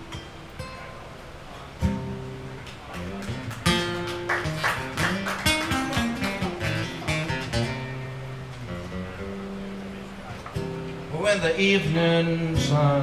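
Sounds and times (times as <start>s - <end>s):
acoustic guitar picking and strumming: 0.0s - 13.0s.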